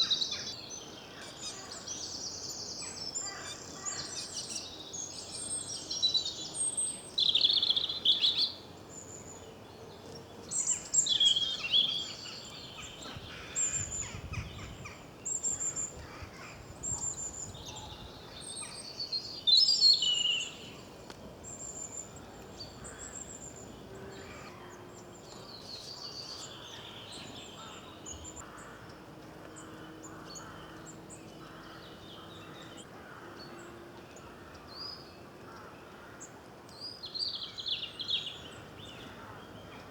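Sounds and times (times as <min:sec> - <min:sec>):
outdoor background hiss: 0:00.0 - 0:39.9
songbirds singing and chirping: 0:00.0 - 0:39.9.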